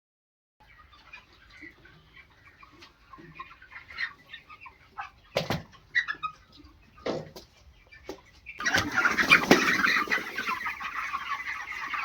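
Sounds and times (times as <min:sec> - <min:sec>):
chickens clucking: 0:00.6 - 0:12.0.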